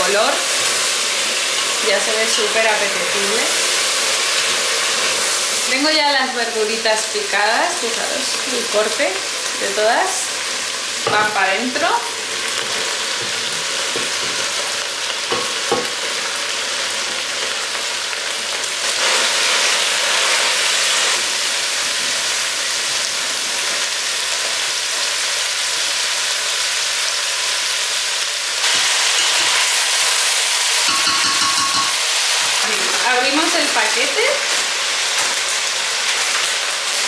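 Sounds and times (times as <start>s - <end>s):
meat and vegetables sizzling: 0.0s - 37.0s.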